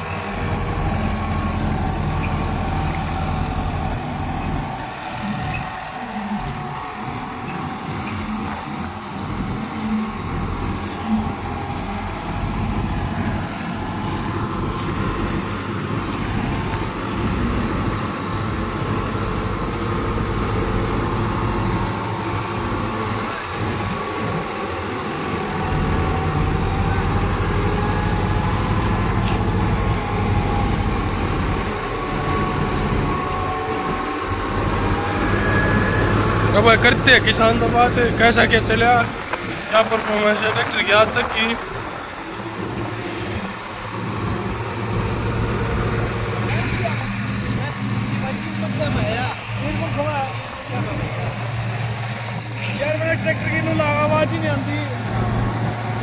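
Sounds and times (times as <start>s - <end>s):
reaper machinery running: 0.0s - 56.0s
tractor diesel engine under load: 0.0s - 56.0s.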